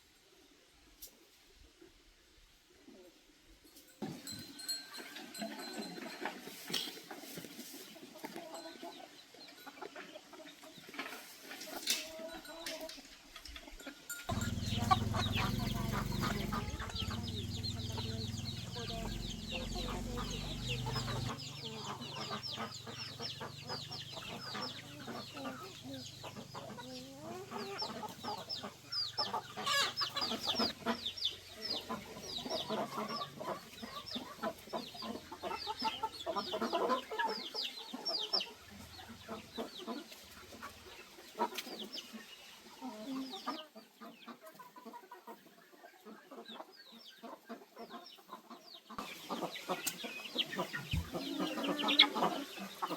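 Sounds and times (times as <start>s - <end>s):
chickens clucking: 2.8s - 52.9s.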